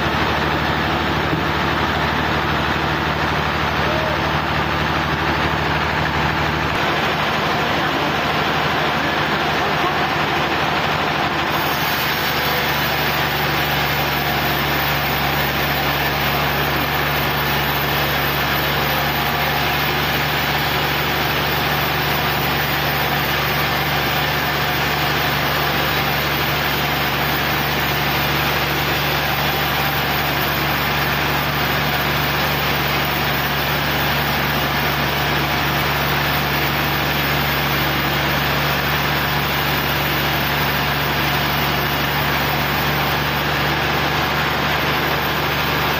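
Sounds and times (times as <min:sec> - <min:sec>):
sawmill engine running: 0:00.0 - 0:45.9.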